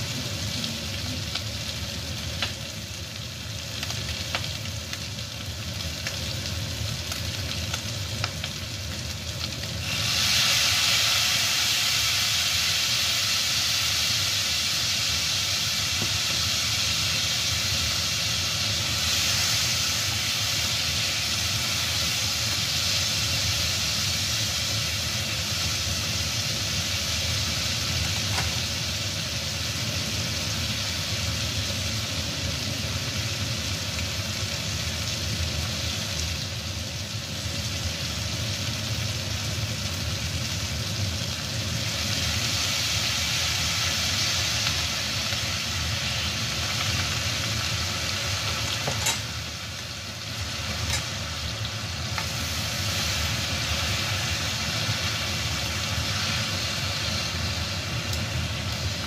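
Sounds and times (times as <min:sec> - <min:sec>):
ribs sizzling in oil: 0:00.0 - 0:59.0.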